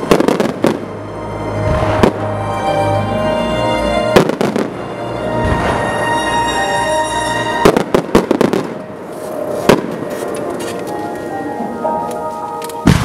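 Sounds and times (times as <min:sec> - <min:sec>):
music: 0:00.0 - 0:13.0.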